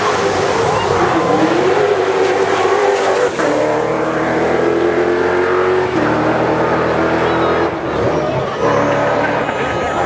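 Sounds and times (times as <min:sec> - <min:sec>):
pickup engine revving: 0:00.0 - 0:10.0.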